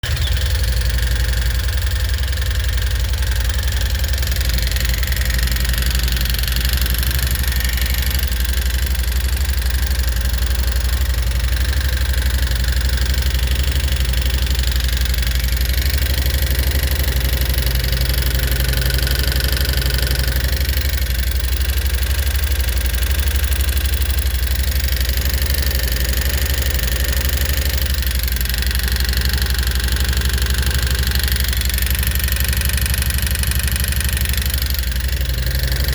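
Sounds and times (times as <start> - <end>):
engine idling with tick: 0.0 - 35.9.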